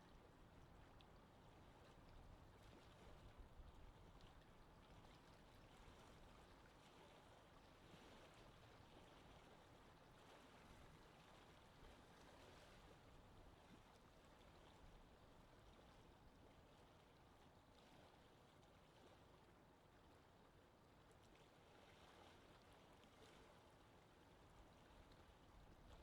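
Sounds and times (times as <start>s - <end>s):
wind: 0.0s - 26.0s.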